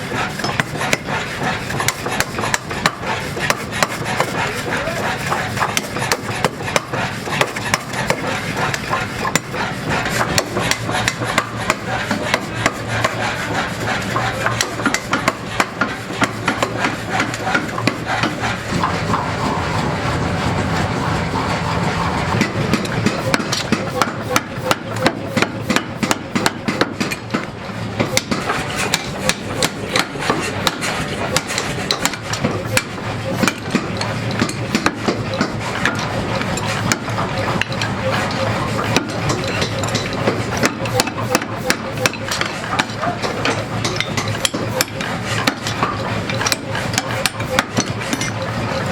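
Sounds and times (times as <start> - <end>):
workshop background noise: 0.0 - 48.9
hammer striking metal: 0.1 - 19.6, 22.3 - 48.5.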